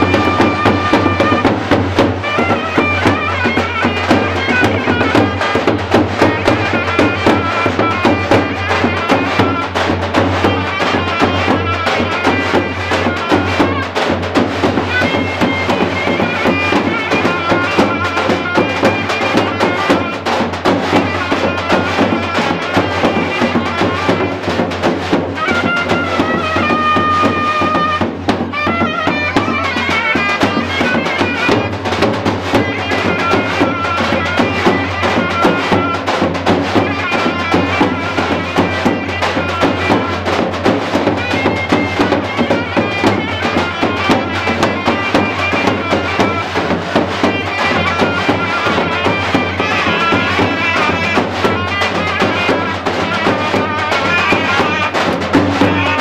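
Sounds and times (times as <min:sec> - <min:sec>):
shawm playing folk dance tune: 0:00.0 - 0:56.0.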